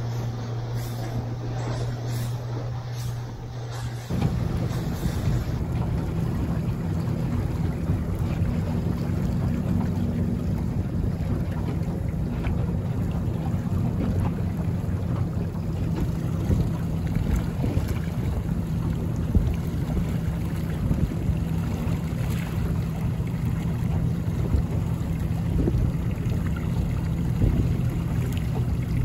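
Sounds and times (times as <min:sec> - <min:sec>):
boat engine humming: 0:00.0 - 0:29.0
water splashing: 0:00.0 - 0:29.0
wind buffeting microphone: 0:00.0 - 0:29.0.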